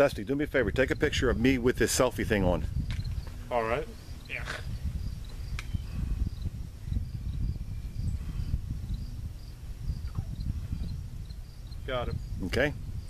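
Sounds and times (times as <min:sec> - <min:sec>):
insects chirping: 0:00.0 - 0:13.0
wind buffeting microphone: 0:00.0 - 0:13.0.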